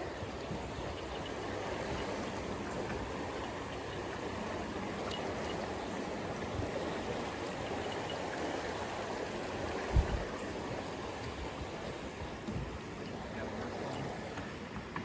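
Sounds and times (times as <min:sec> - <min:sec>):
river water rushing: 0:00.0 - 0:14.9.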